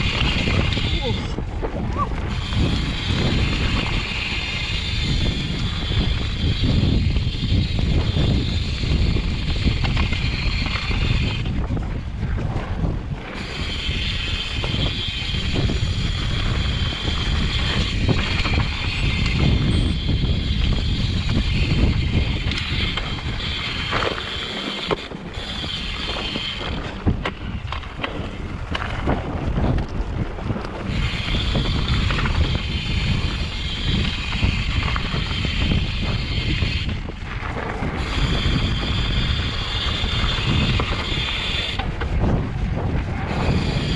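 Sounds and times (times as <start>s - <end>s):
bike rattling over bumps: 0.0s - 43.9s
bike tyres rolling on dirt: 0.0s - 43.9s
wind buffeting microphone: 0.0s - 43.9s.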